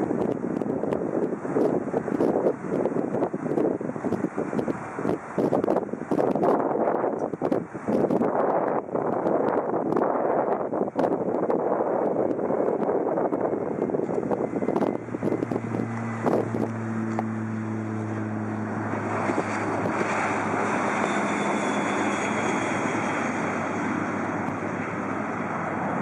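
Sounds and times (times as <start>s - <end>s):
high turbine whine: 0.0s - 26.0s
jet engine noise: 0.0s - 26.0s
wind buffeting microphone: 0.0s - 26.0s.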